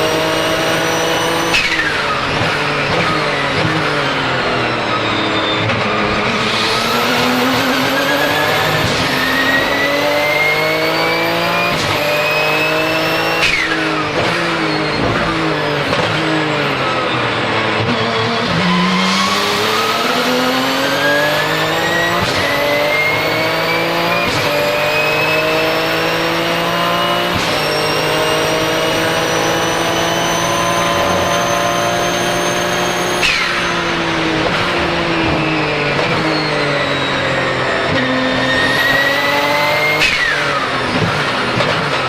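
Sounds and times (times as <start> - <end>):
gearbox upshifts: 0.0 - 42.0
race car engine accelerating: 0.0 - 42.0
turbo whistle: 0.4 - 26.7, 27.3 - 41.0.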